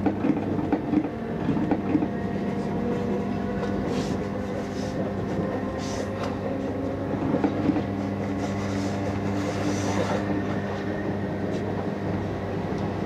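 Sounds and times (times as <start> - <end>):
train electrical hum: 0.0 - 13.0.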